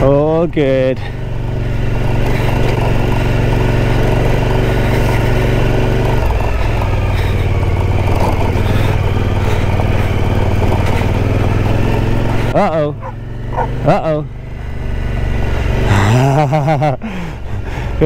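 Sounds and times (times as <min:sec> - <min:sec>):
motorcycle engine at low speed: 0:00.0 - 0:18.0.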